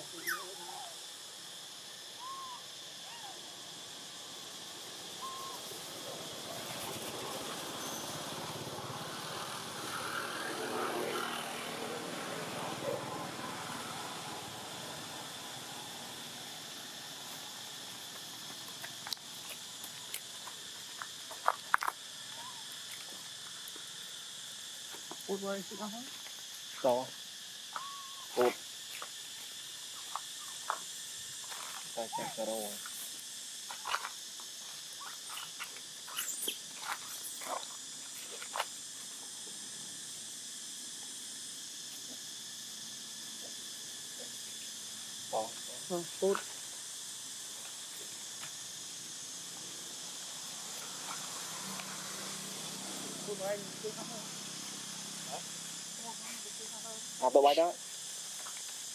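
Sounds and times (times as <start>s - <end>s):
high insect drone: 0.0s - 58.9s.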